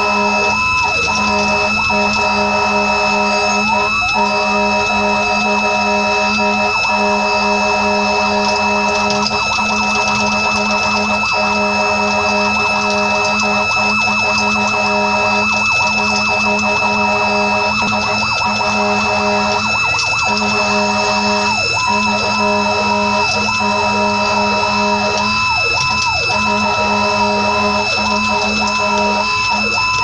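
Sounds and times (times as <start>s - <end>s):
fire engine siren: 0.0s - 30.0s.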